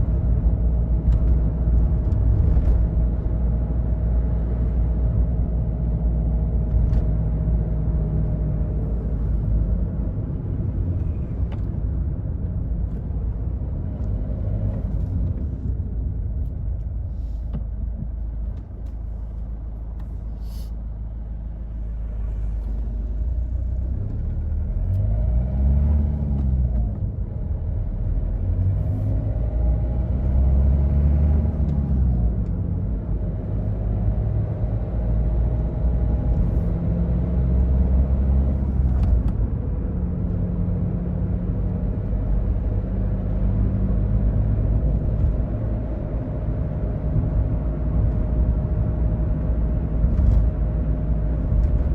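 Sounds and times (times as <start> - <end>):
diesel car engine: 0.0 - 51.9
road rumble: 0.0 - 51.9.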